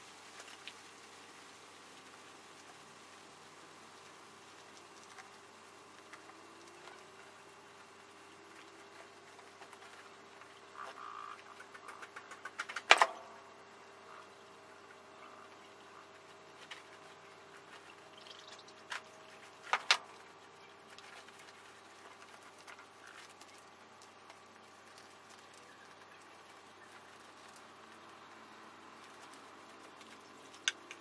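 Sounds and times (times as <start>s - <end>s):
faint steady hum: 0.0s - 31.0s
guinea pigs rustling in bedding: 0.0s - 31.0s.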